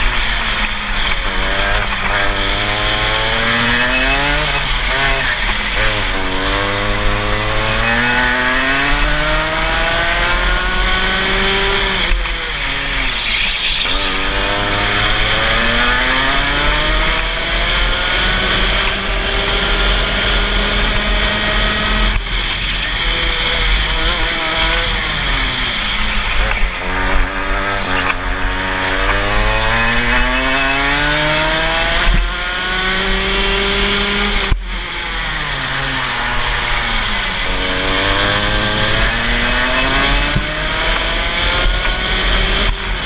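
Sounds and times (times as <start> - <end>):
kart engine revving: 0.0 - 43.0.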